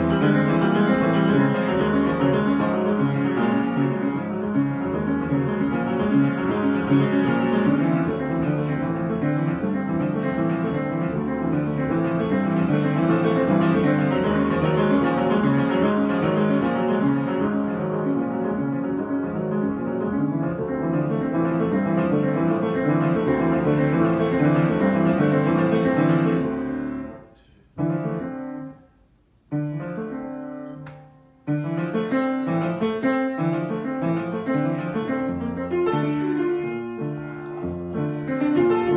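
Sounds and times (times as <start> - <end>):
solo piano chords: 0.0 - 28.8, 29.5 - 38.9.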